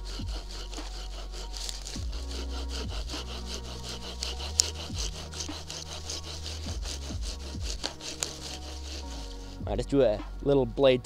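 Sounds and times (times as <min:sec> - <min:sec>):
saw cutting through wood: 0:00.0 - 0:10.6.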